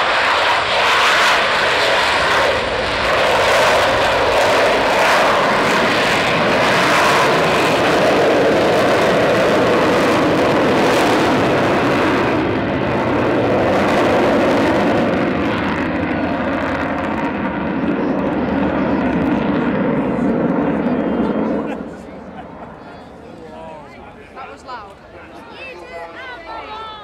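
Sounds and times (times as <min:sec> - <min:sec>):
jet roar: 0:00.0 - 0:27.0.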